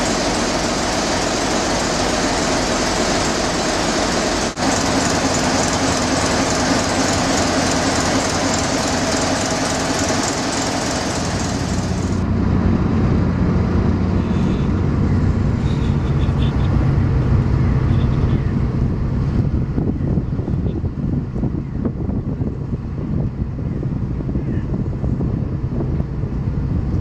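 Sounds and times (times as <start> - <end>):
steady hum: 0.0 - 22.5
diesel engine running: 0.0 - 27.0.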